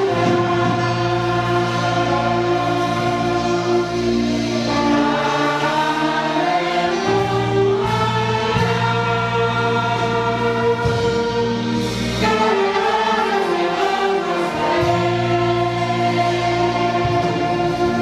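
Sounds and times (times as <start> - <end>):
choir singing: 0.0 - 18.0
orchestra playing a hymn: 0.0 - 18.0.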